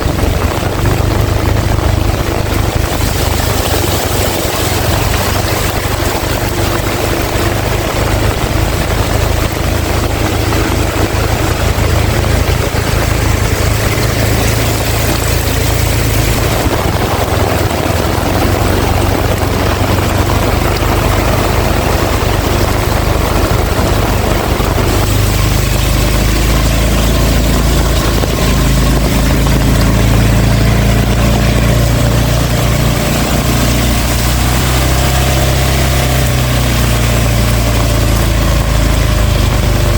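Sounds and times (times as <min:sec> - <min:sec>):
heavy rain pouring: 0:00.0 - 0:39.9
low droning hum: 0:00.0 - 0:39.9
wind rumbling on microphone: 0:00.0 - 0:39.9.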